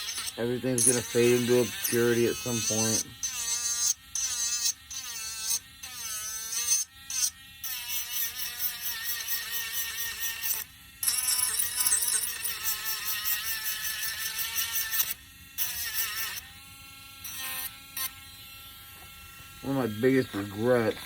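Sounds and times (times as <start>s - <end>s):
electric sander buzzing on wood: 0.0s - 21.0s.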